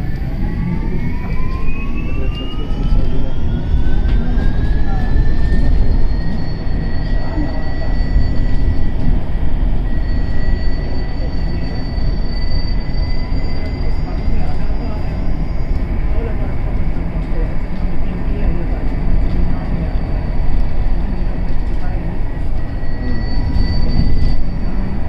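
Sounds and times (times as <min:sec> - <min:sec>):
bus engine whine: 0:00.0 - 0:25.0
heavy low rumble: 0:00.0 - 0:25.0.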